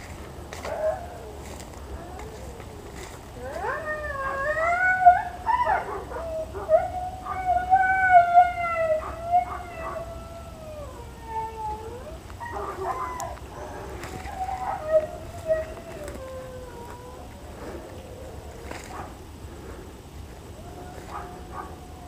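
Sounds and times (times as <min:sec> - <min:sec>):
animal howling: 0:00.6 - 0:19.2, 0:20.5 - 0:22.0.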